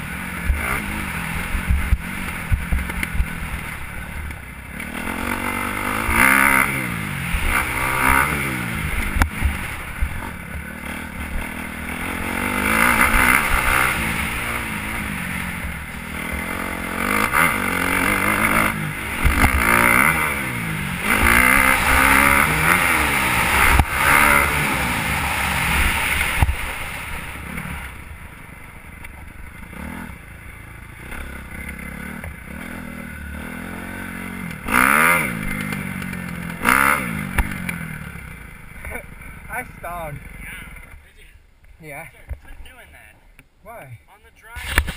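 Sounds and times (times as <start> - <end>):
motocross bike engine revving: 0.0 - 41.1.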